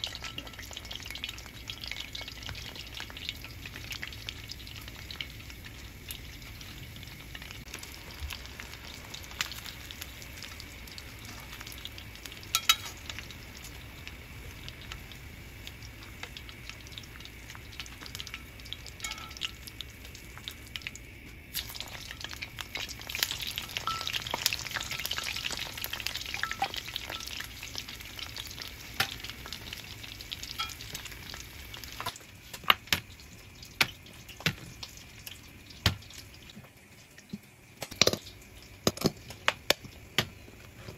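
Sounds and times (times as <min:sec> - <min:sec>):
hot oil sizzling: 0:00.0 - 0:40.9.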